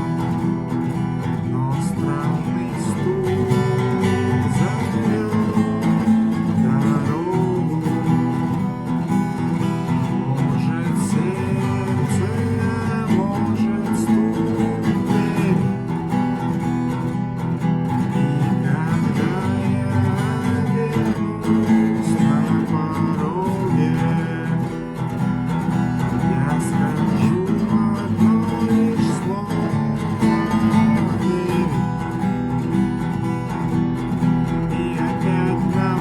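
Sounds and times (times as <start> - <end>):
acoustic guitar percussive strumming: 0.0 - 36.0.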